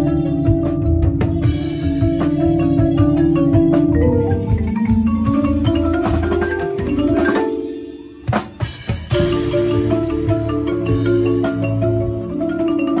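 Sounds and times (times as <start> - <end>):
lower background music: 0.0 - 13.0
marimba played with mallets: 0.0 - 13.0.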